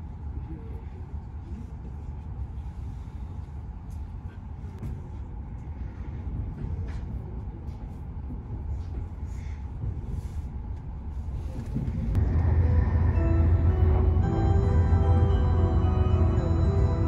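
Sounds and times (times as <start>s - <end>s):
train cabin rumble: 0.4s - 17.0s.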